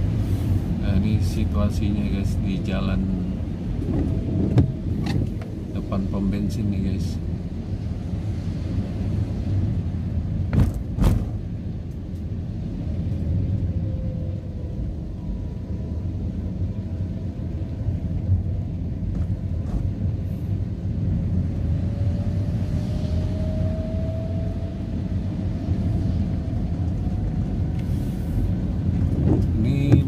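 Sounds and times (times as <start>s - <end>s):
car driving on wet road: 0.0s - 30.0s.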